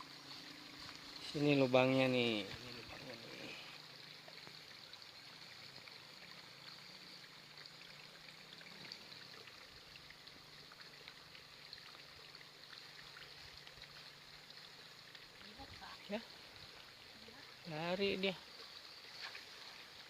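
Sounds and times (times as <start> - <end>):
faint trickle of water: 0.0 - 20.0.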